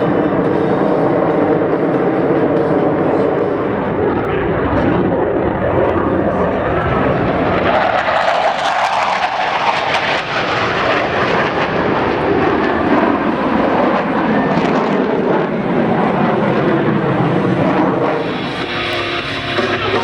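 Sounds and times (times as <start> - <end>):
jet noise: 0.0 - 20.0.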